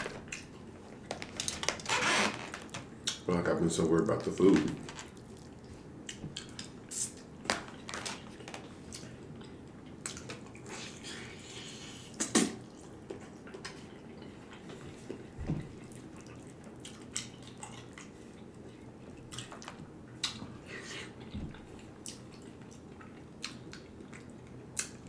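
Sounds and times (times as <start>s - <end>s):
wet chewing noises: 4.0s - 25.0s.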